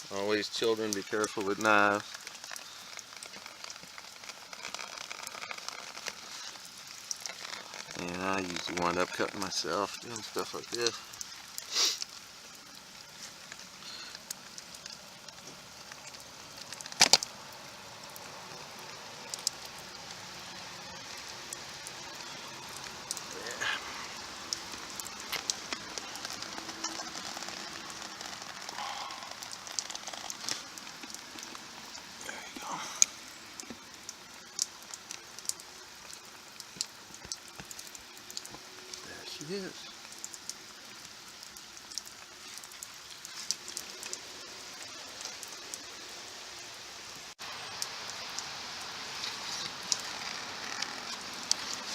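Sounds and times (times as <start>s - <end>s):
rain hissing on surfaces: 0.0s - 51.9s.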